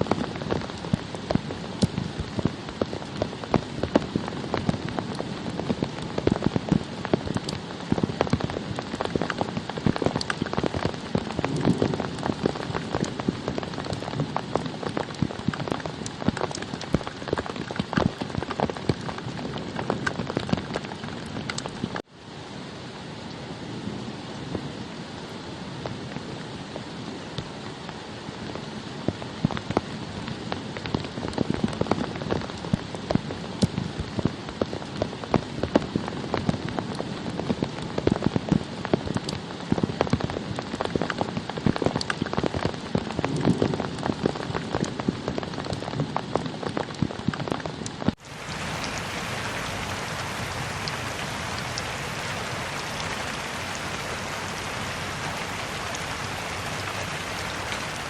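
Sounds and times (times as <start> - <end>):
raindrops hitting close by: 0.0 - 22.3, 23.2 - 58.0
steady hiss of rain: 0.0 - 58.0.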